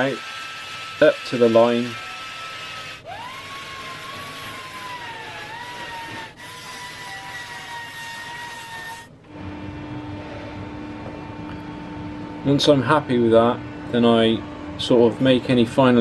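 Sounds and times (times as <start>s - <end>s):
belt sander whining: 0.0s - 16.0s
background hum: 2.4s - 16.0s.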